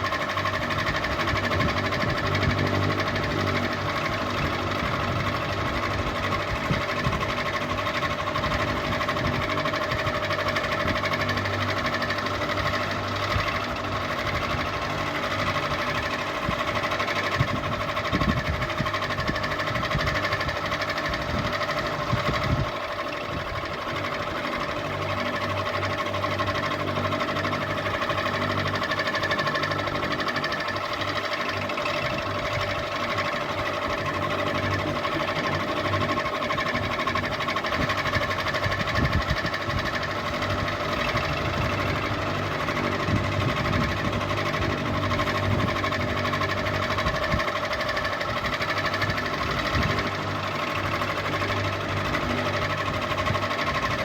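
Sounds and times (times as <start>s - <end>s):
ceiling fan motor hum: 0.0s - 54.0s
fan rattling: 0.0s - 54.0s.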